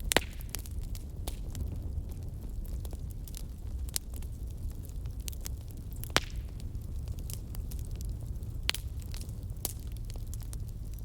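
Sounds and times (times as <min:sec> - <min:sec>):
low rumble of flames: 0:00.0 - 0:11.0
wood fire crackling: 0:00.0 - 0:11.0.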